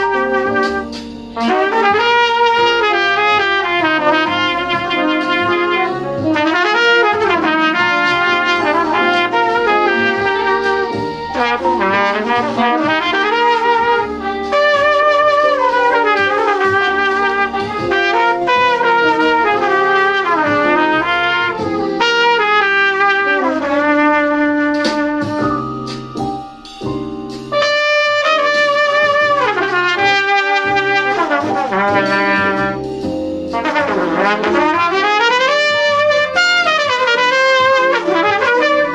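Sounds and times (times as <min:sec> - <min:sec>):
trumpet jazz solo: 0:00.0 - 0:38.9.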